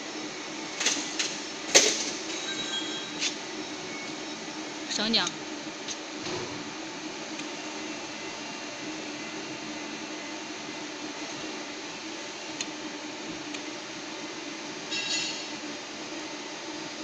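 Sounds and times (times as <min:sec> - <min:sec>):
welding equipment humming: 0:00.0 - 0:15.6.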